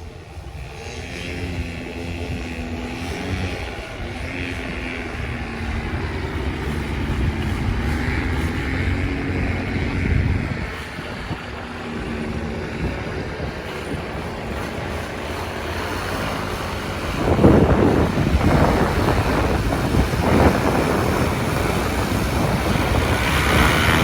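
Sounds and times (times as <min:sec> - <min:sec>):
paramotor engine running: 0:00.0 - 0:24.0.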